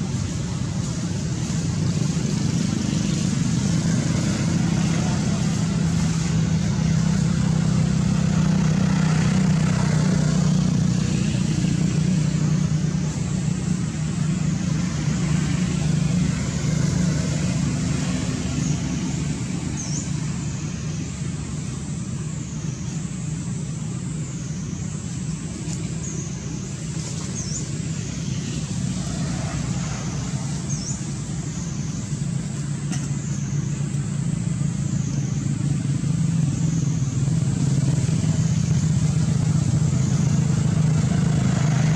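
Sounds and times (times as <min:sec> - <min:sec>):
vehicle engine humming: 0:00.0 - 0:41.9.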